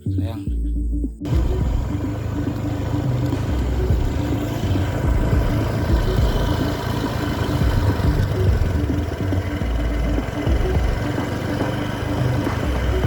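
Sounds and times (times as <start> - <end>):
small engine running: 1.3 - 13.0.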